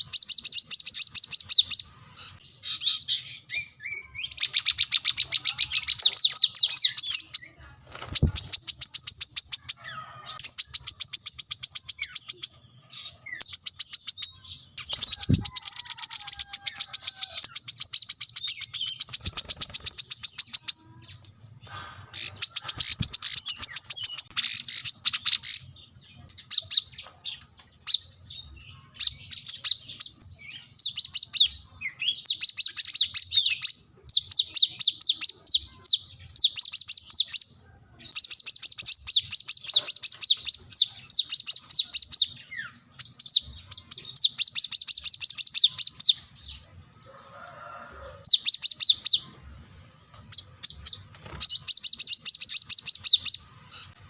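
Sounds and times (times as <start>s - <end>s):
bird twittering chirps: 0.0s - 46.6s, 48.3s - 49.4s, 50.1s - 54.0s.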